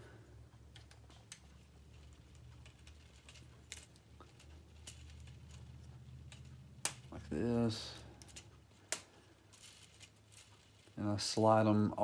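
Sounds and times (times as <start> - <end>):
low steady hum: 0.0 - 12.0
plastic pieces clicking: 0.6 - 11.4.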